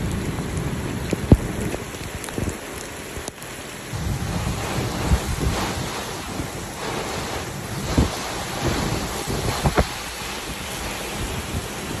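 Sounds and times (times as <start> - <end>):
wind on microphone: 0.0 - 3.3, 3.9 - 12.0
heavy rain pouring: 0.0 - 12.0.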